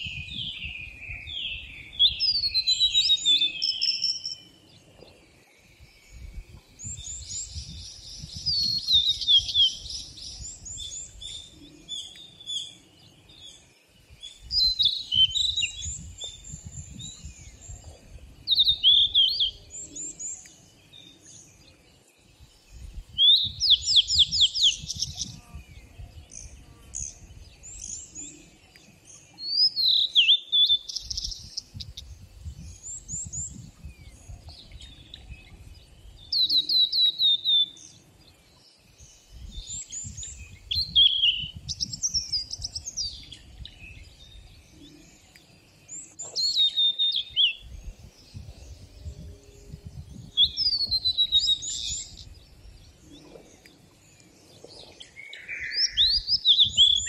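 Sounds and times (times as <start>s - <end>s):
soft bird chirps: 0.0s - 57.0s
songbirds whistling and trilling: 0.0s - 57.0s.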